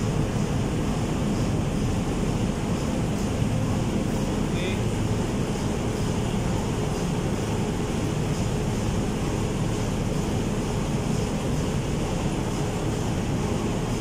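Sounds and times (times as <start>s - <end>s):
engine room machinery drone: 0.0s - 14.0s.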